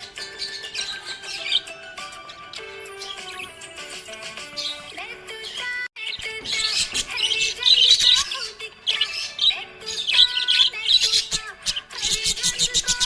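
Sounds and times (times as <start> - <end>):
background music: 0.0 - 13.0
budgerigar chirping and warbling: 0.0 - 13.0.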